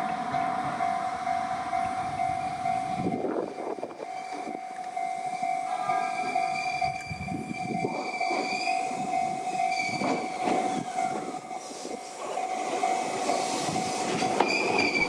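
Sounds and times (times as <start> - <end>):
level crossing warning bell: 0.0 - 15.0
train running noise: 0.0 - 15.0.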